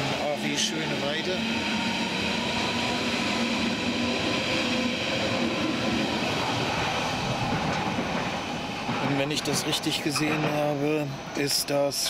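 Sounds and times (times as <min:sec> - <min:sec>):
train wheels rolling on rails: 0:00.0 - 0:12.0
train whining tones: 0:00.0 - 0:12.0.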